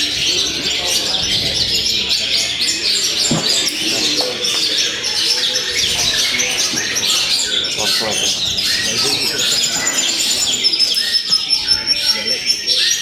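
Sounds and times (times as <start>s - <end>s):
songbirds chirping and singing: 0.0s - 13.0s.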